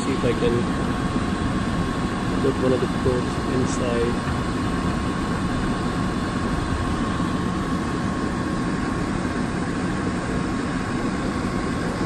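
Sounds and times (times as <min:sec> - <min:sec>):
blower fan rushing air: 0:00.0 - 0:12.0
faint high hum: 0:00.0 - 0:12.0.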